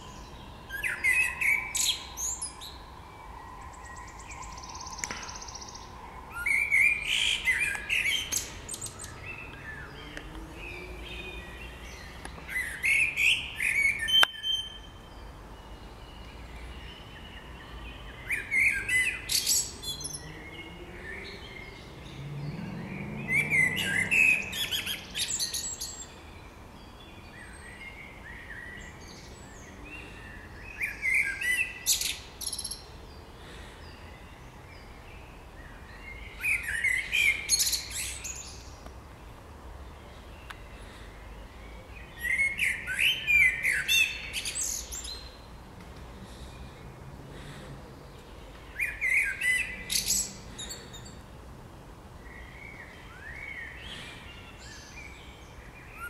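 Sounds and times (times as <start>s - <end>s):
blackbird singing: 0.0s - 38.8s, 40.0s - 45.5s, 48.1s - 51.2s.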